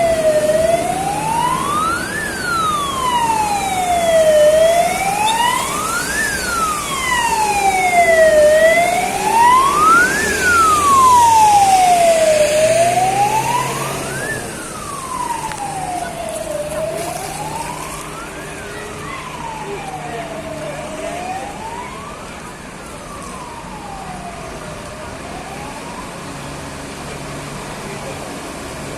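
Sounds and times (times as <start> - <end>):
emergency vehicle siren wailing: 0.0 - 28.9.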